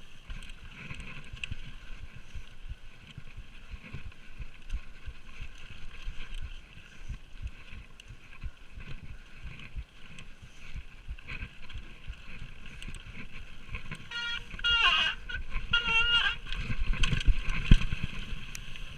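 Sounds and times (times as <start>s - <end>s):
mountain bike rushing and rattling: 0.0s - 18.9s
wheels knocking on roots and rocks: 0.0s - 18.9s.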